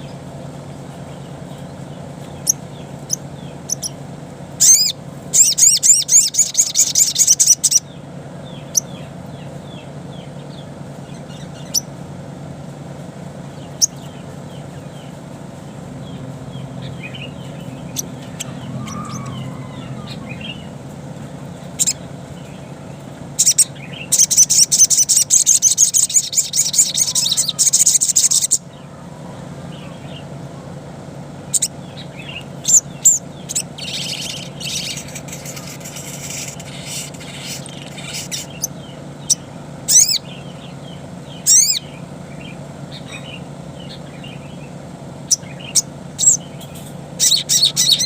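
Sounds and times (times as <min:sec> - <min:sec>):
bird chirps: 0:00.0 - 0:04.0, 0:04.6 - 0:12.0, 0:13.5 - 0:15.2, 0:16.0 - 0:29.0, 0:31.4 - 0:48.0
low steady hum: 0:00.0 - 0:48.0
bird chattering calls: 0:00.8 - 0:12.0, 0:15.9 - 0:30.4, 0:31.4 - 0:48.0.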